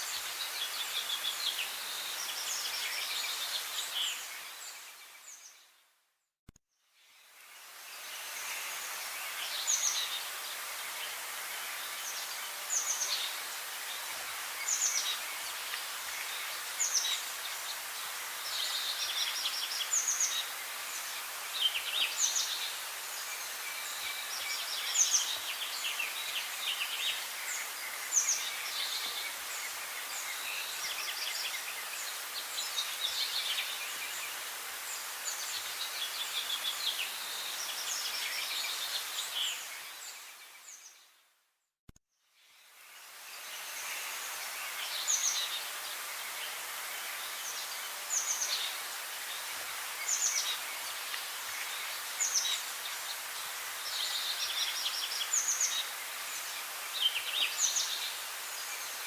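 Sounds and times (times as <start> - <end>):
steady background hiss: 0.0 - 5.6, 7.0 - 41.0, 42.4 - 59.0
songbirds singing: 0.0 - 5.8, 6.9 - 41.2, 42.4 - 59.0.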